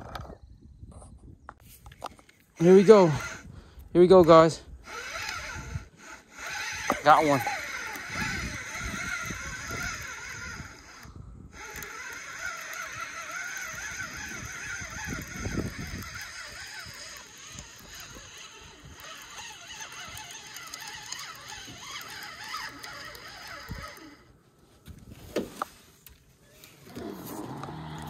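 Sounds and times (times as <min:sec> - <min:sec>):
fishing reel whirring: 0:01.6 - 0:28.0.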